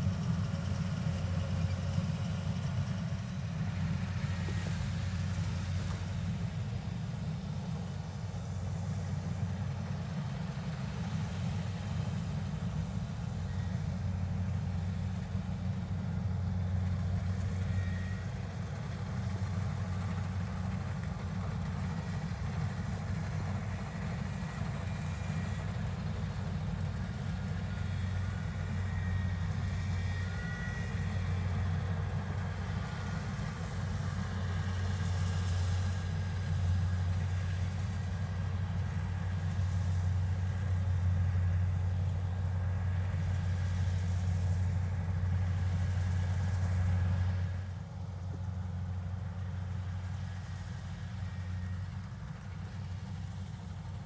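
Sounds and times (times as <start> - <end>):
diesel engine running under load: 0.0 - 54.0
machinery whine: 0.0 - 54.0.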